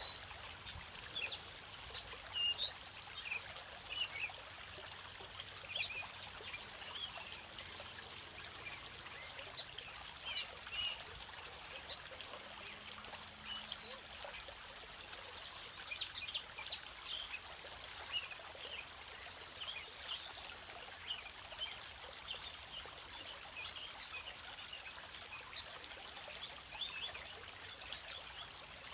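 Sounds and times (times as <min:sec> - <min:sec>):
creek trickling and burbling: 0:00.0 - 0:28.9.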